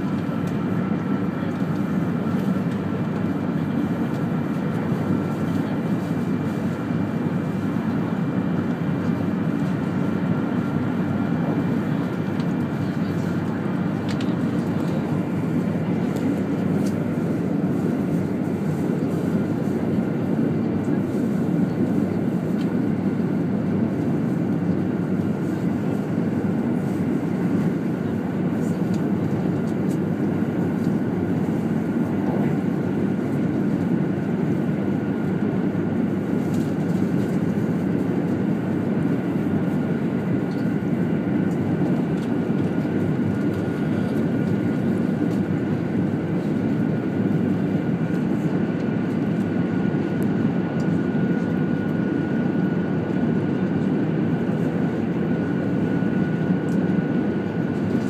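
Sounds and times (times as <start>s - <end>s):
train running noise inside car: 0.0s - 50.2s, 56.4s - 58.0s.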